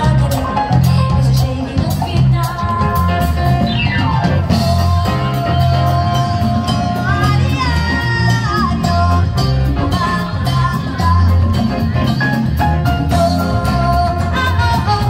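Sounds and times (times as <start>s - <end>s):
bass line: 0.0s - 15.0s
live band playing: 0.0s - 15.0s.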